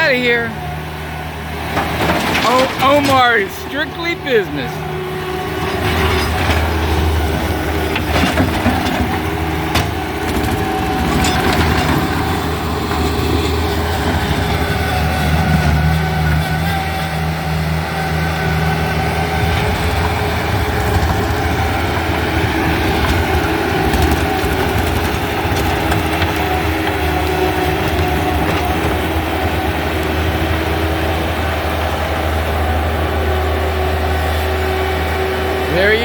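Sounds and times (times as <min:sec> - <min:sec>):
diesel engine humming: 0:00.0 - 0:36.0.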